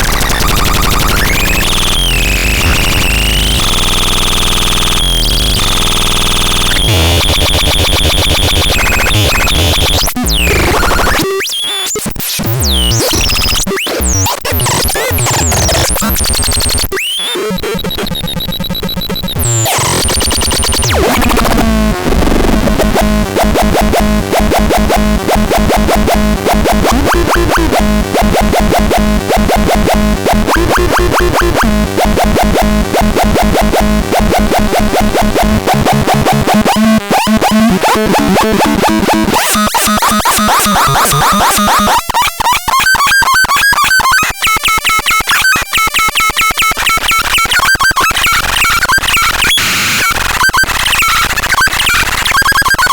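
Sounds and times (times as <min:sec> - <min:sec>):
harsh noisy synthesizer: 0:00.0 - 0:52.9.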